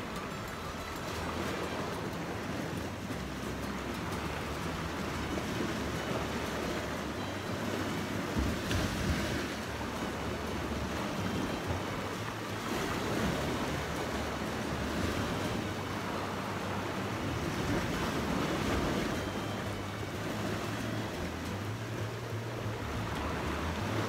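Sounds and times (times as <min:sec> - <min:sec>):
sea waves washing on rocks: 0:00.0 - 0:24.0.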